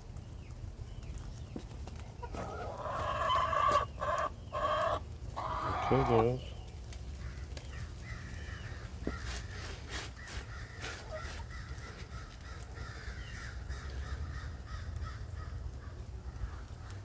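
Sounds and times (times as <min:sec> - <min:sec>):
hens calling: 0:02.1 - 0:17.0.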